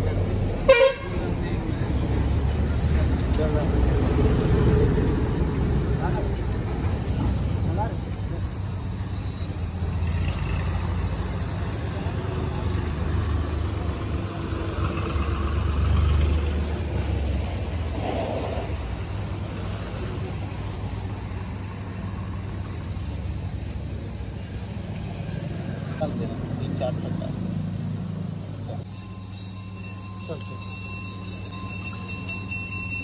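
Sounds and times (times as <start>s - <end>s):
engine rumbling: 0.0s - 33.0s.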